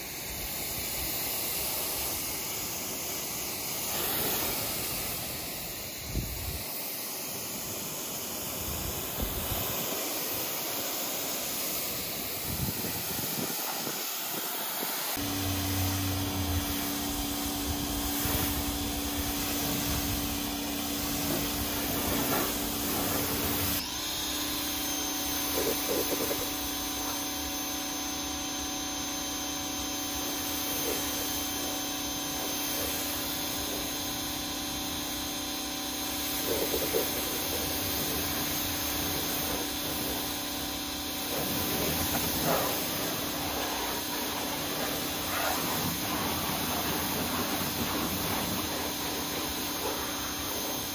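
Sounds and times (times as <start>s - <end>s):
pressure washer motor drone: 0.0s - 50.9s
water jet hissing: 0.0s - 50.9s.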